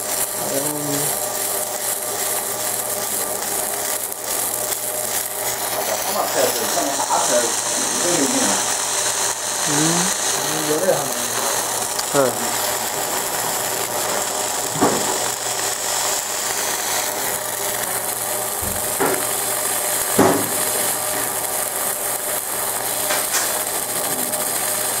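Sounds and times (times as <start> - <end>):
laser engraving hiss and buzz: 0.0 - 25.0.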